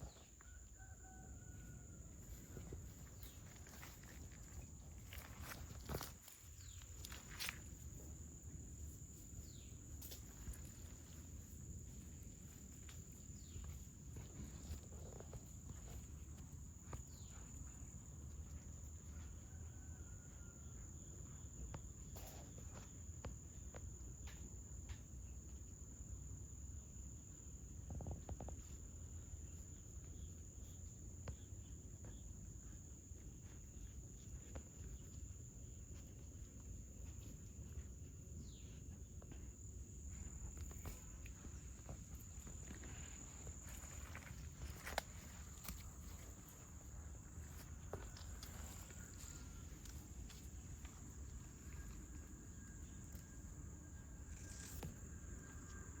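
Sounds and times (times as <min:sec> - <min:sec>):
insect trill: 0:00.0 - 0:56.0.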